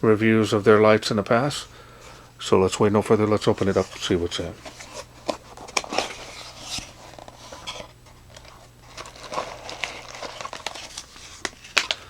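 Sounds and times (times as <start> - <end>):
packaging rustling and crinkling: 2.1 - 12.0.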